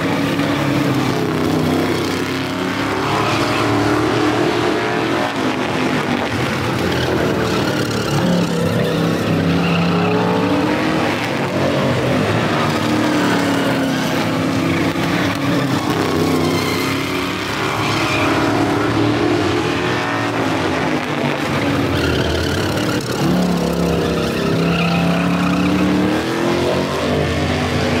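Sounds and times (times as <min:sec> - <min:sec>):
race car engines passing by: 0:00.0 - 0:28.0.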